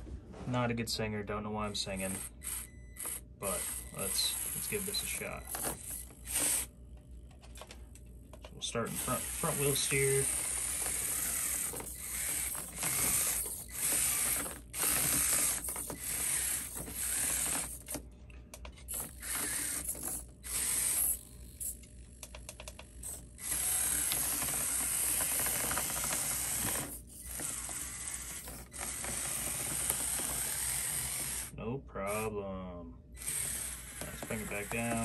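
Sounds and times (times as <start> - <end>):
toy car electric motor and gears: 1.7 - 6.7, 8.7 - 18.0, 18.6 - 32.3, 33.2 - 35.0.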